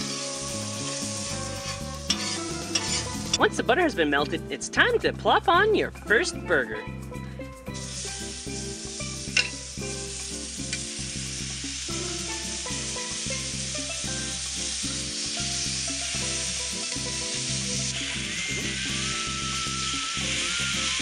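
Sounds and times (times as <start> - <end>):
butter sizzling on griddle: 0.0 - 3.5, 7.7 - 21.0.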